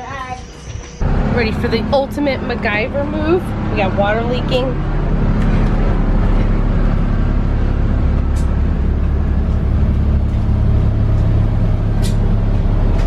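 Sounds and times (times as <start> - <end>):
bus engine idling: 1.0 - 13.0.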